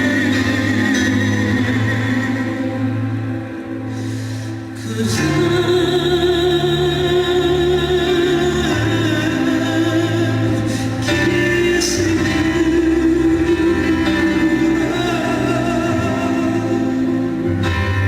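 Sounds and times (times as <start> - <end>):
person singing long held notes: 0.0 - 18.0.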